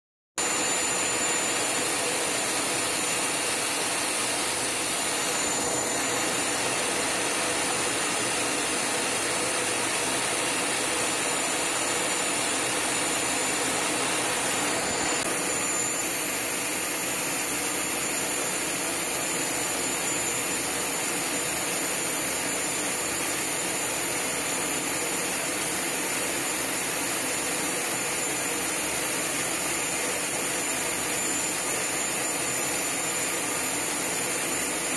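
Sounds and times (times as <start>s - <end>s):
faint high whine: 0.4s - 34.9s
jet engine and airflow noise: 0.4s - 34.9s.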